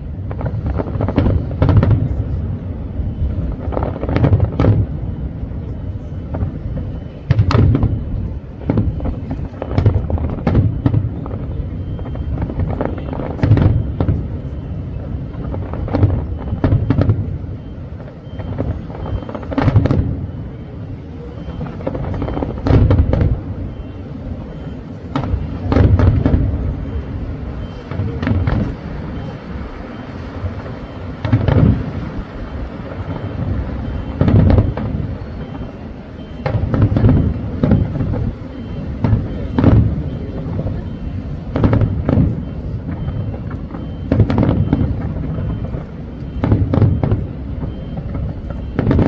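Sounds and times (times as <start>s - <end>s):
fireworks booming: 0.0s - 49.0s
fireworks crackling: 0.0s - 49.0s.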